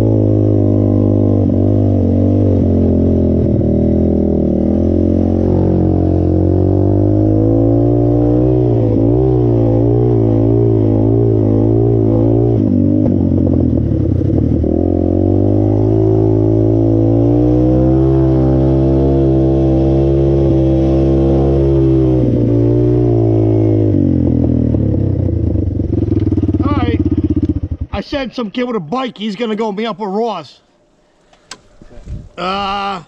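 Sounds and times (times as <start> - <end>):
off-road vehicle engine revving: 0.0 - 28.7.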